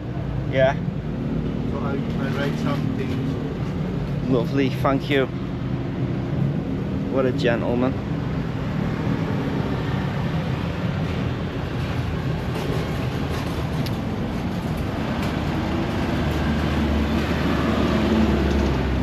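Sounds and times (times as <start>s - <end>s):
street traffic noise: 0.0s - 19.0s
vehicle engine rumble passing: 0.0s - 19.0s.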